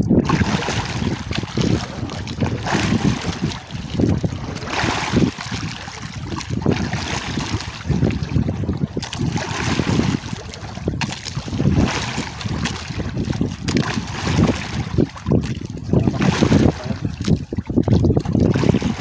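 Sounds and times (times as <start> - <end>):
waves washing against boat: 0.0 - 19.0
wind gusting on microphone: 0.0 - 19.0.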